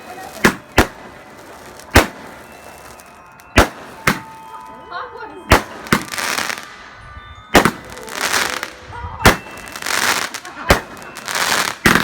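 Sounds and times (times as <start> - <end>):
firework bangs: 0.0 - 4.5, 5.5 - 12.0
firework crackling: 0.0 - 4.8, 5.5 - 12.0.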